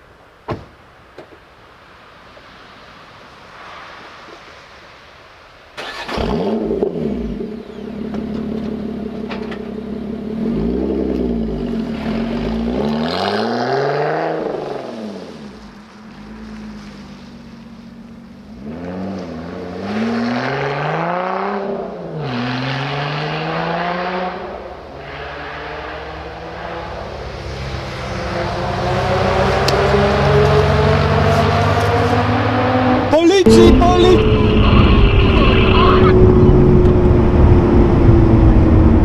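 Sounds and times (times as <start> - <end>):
car engine accelerating hard: 5.8 - 39.0.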